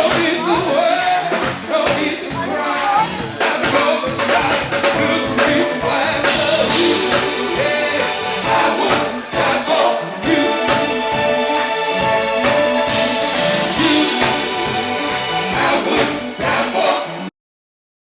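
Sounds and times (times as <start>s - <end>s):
band playing: 0.0s - 17.3s
person singing: 0.0s - 17.3s
steady drum beat: 0.0s - 17.3s.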